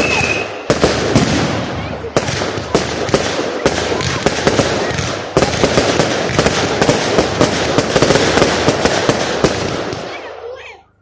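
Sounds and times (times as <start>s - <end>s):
fireworks popping and banging: 0.0s - 10.6s
fireworks crackle: 0.0s - 10.8s.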